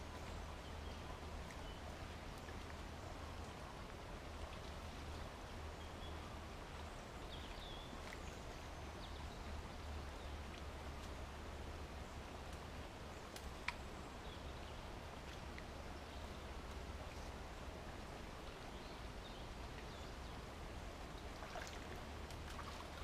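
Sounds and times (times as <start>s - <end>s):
low hiss and hum: 0.0s - 23.0s.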